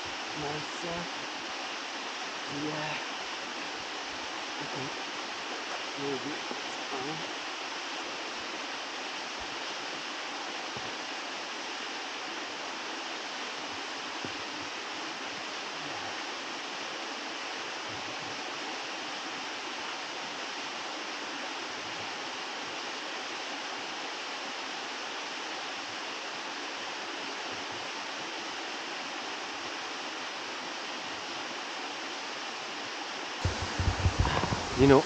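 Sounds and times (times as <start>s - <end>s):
water rushing from waterfall: 0.0s - 35.0s.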